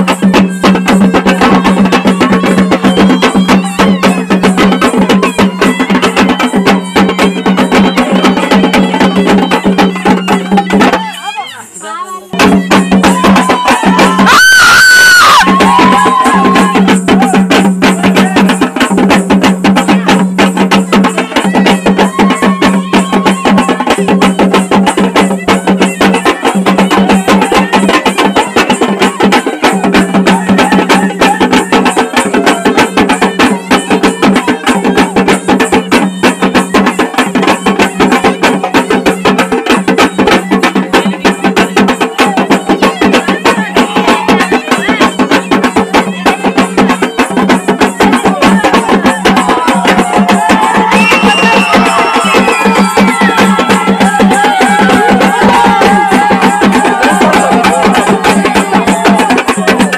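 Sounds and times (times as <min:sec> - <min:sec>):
frame drums beating fast: 0:00.0 - 0:59.9.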